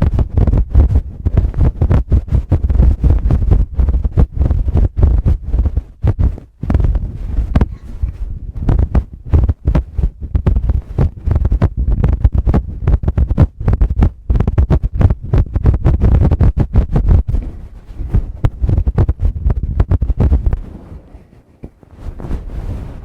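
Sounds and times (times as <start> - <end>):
fingertips tapping on microphone: 0.0 - 23.0.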